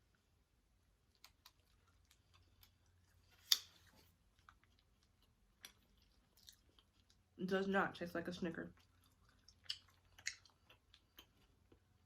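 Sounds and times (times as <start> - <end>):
faint chewing: 1.0 - 7.4, 8.6 - 12.0.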